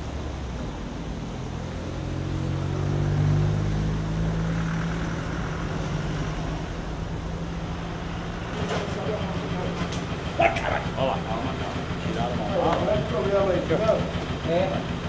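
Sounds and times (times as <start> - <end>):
heavy machine engine revving: 1.4 - 15.0.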